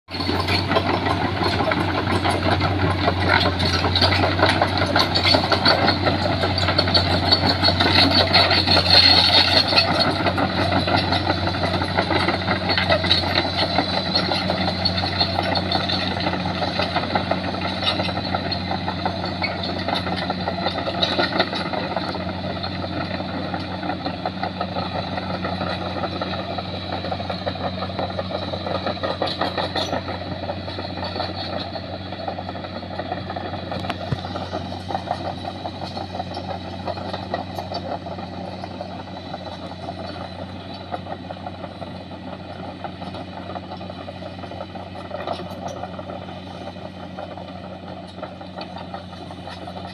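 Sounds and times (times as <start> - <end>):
steel tracks clattering: 0.1 - 40.4
excavator diesel engine humming: 0.1 - 49.9.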